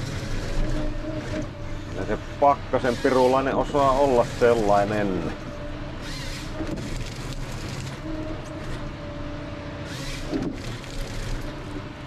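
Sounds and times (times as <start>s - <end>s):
forest harvester engine humming: 0.0s - 12.0s.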